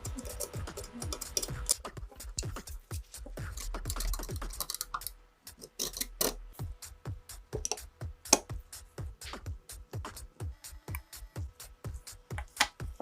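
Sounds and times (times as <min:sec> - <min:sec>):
electronic music with a beat: 0:00.0 - 0:13.0.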